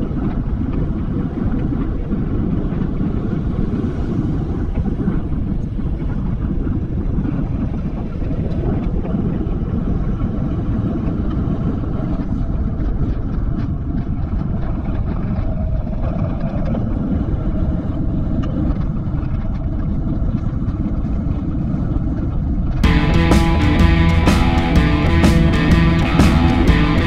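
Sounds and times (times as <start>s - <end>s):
wind rushing over microphone: 0.0s - 22.9s.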